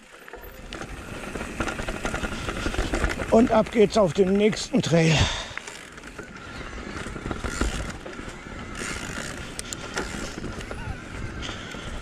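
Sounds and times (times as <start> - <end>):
bike knocks and rattles: 0.0 - 5.0, 5.6 - 12.0
bike tyres crunching on gravel: 0.0 - 12.0.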